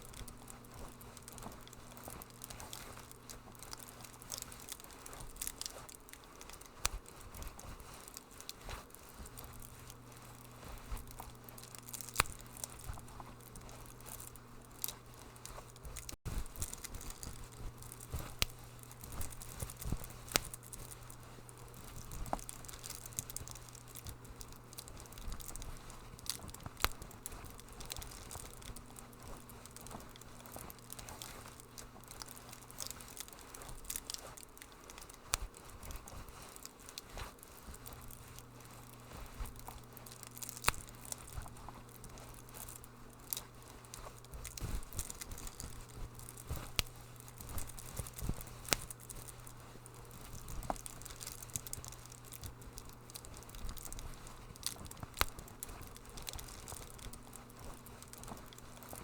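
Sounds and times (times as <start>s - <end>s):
soft steady hiss: 0.0s - 59.0s
wood fire crackling and popping: 0.0s - 59.0s.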